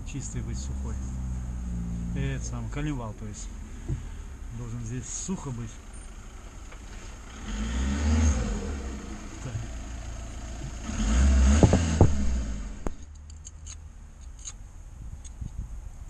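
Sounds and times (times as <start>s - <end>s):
road vehicles passing: 0.0s - 16.0s.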